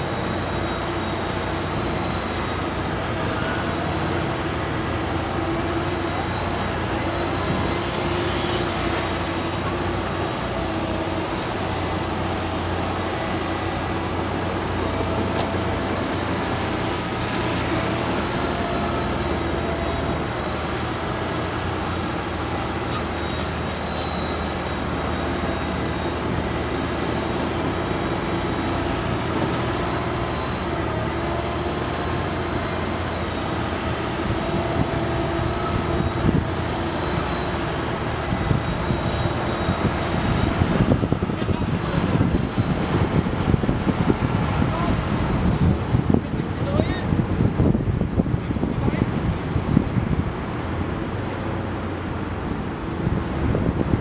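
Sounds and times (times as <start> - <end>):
machinery engines humming: 0.0 - 54.0.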